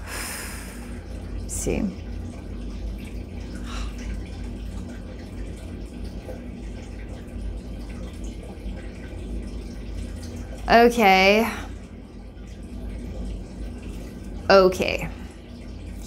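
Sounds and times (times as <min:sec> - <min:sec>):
low hum and room noise: 0:00.0 - 0:16.0.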